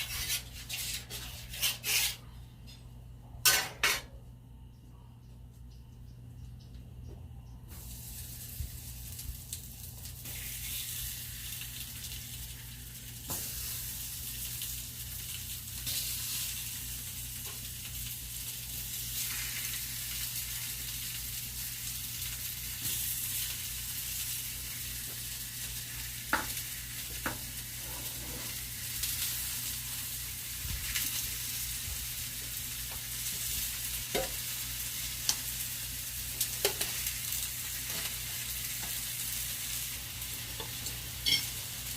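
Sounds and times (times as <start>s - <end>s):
chicken frying in hot oil: 0.0s - 2.2s, 7.7s - 41.9s.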